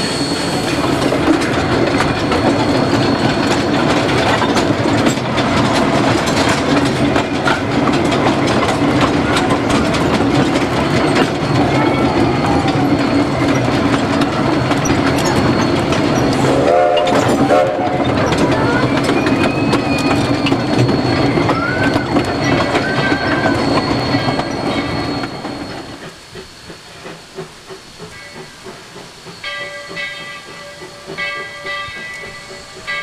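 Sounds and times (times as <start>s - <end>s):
train rumble: 0.0s - 33.0s
train wheels clicking over rail joints: 0.0s - 33.0s.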